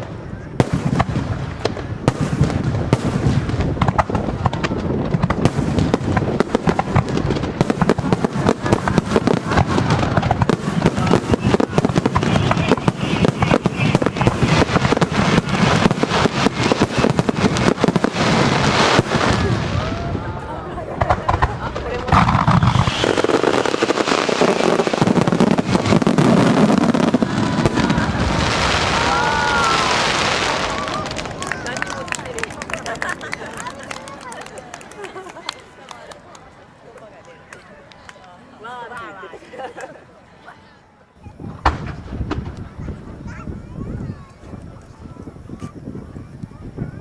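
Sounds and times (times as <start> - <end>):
fireworks barrage bursting: 0.0 - 34.2, 41.2 - 47.0.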